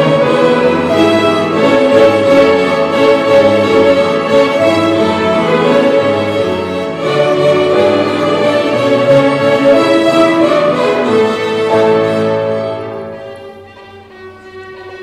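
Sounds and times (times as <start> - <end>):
piano accompaniment: 0.0 - 15.0
violins playing together: 0.0 - 15.0.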